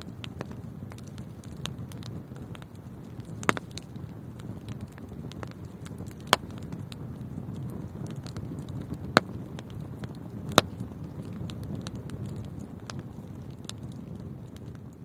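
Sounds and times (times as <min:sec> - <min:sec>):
fire crackling: 0:00.0 - 0:15.0
fire flames rumbling: 0:00.0 - 0:15.0.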